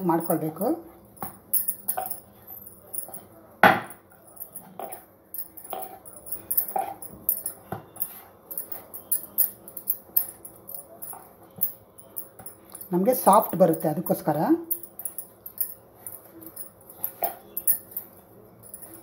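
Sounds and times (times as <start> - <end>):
bangles jingling: 0.0 - 19.0.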